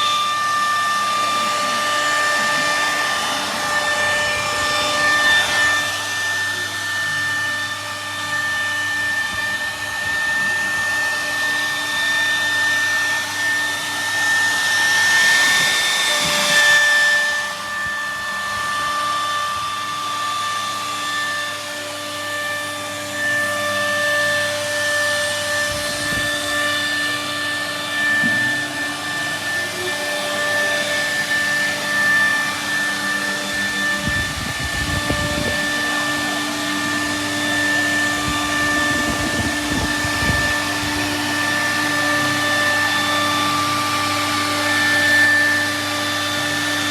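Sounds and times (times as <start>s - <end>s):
router spindle whine: 0.0s - 46.9s
wood cutting rush: 0.0s - 46.9s.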